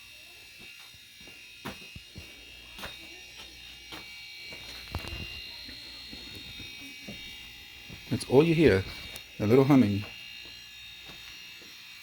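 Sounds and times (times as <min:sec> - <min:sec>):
compressors humming: 0:01.9 - 0:12.0.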